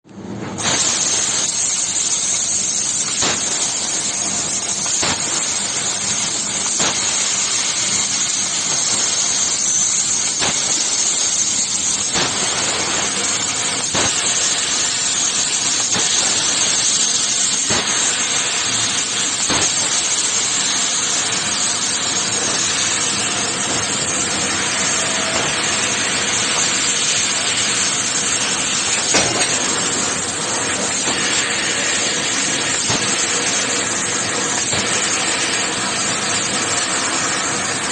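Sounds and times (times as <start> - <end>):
metal cutting machine hissing: 0.6 - 37.9.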